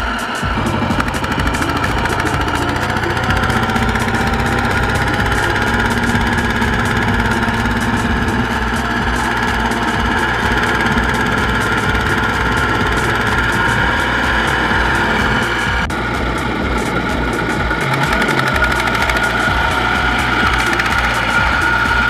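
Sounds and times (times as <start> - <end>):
diesel engine clattering: 0.4 - 22.0.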